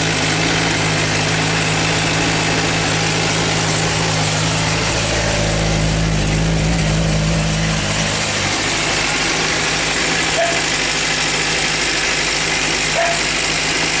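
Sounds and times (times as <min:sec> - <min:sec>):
engine ticking: 0:00.0 - 0:14.0
motorcycle engine idling: 0:00.0 - 0:14.0.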